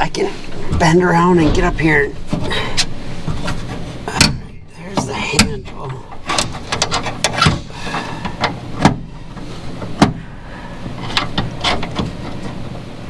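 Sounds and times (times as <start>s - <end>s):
parts knocking and clicking: 0.0s - 13.0s.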